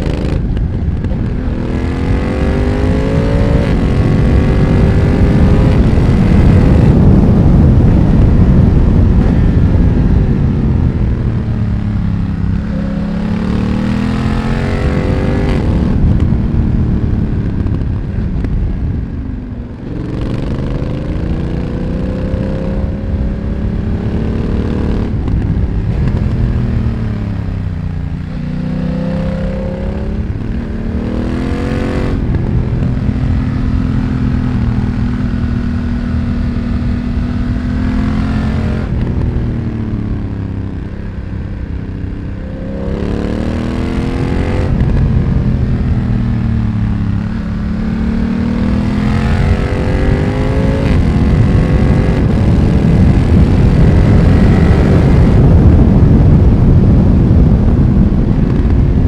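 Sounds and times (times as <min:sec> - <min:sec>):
gear changes: 0:00.0 - 0:59.0
motorcycle engine revving: 0:00.0 - 0:59.0.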